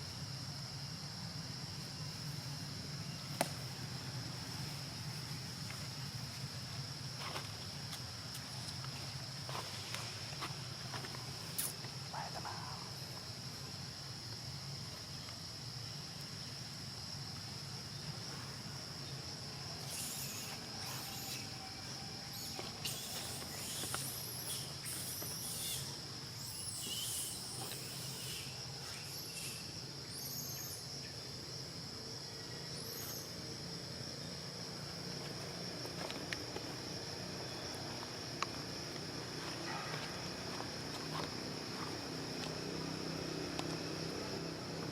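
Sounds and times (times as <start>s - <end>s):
high-pitched insect drone: 3.8s - 44.9s.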